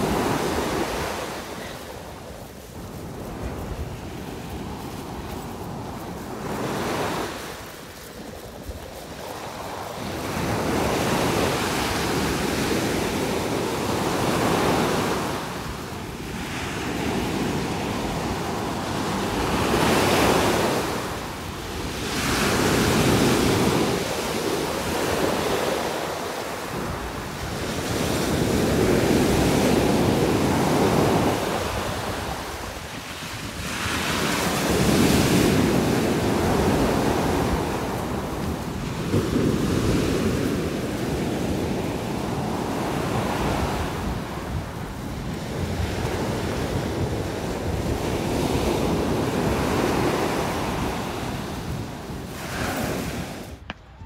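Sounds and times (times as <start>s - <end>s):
surf breaking on beach: 0.0s - 53.8s.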